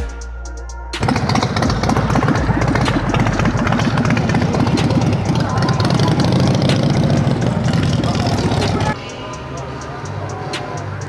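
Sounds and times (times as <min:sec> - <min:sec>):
background music: 0:00.0 - 0:11.0
engine running with rough exhaust: 0:01.0 - 0:11.0.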